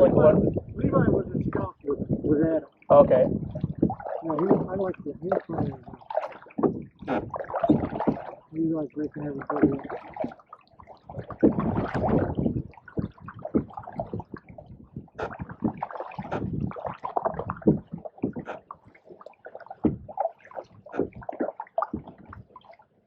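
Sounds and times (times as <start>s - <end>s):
paddles splashing in water: 0.0s - 23.0s
water gurgling: 0.0s - 23.0s.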